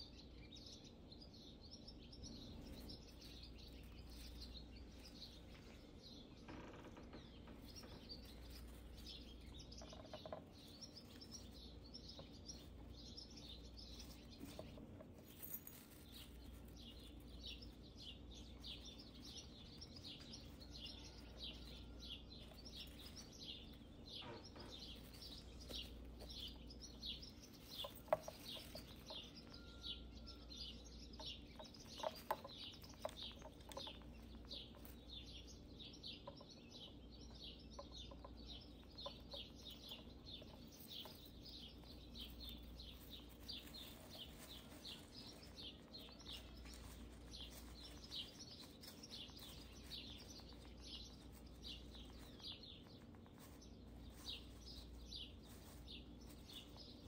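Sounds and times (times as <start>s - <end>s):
faint birds chirping: 0.0s - 57.0s.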